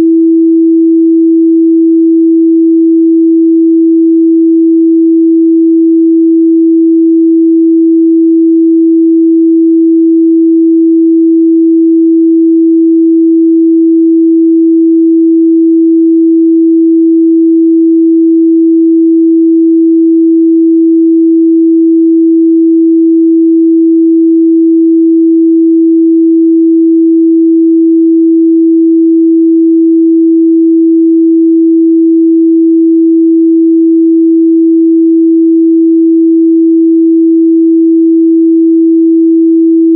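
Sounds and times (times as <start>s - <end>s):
pure sine-wave test tone: 0.0s - 39.9s.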